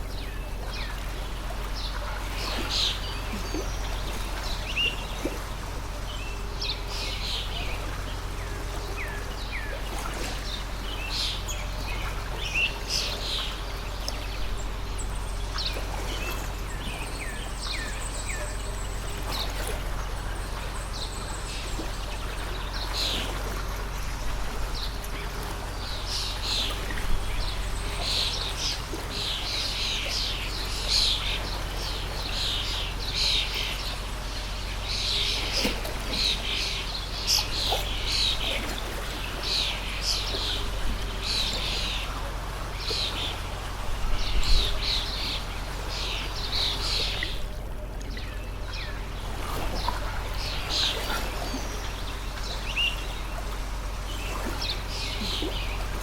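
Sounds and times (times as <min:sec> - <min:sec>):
small birds chirping: 0:00.0 - 0:56.0
stream rushing: 0:00.0 - 0:56.0.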